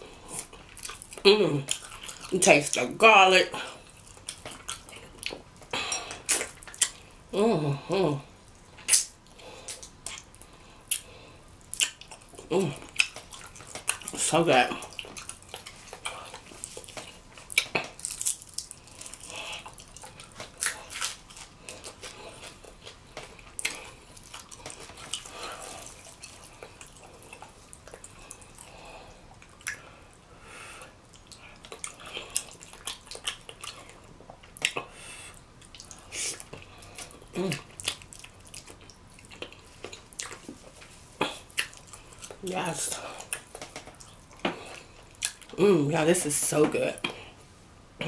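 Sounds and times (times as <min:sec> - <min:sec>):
wet chewing and lip smacking: 0:00.3 - 0:02.8, 0:03.8 - 0:07.2, 0:08.5 - 0:30.0, 0:30.8 - 0:45.6.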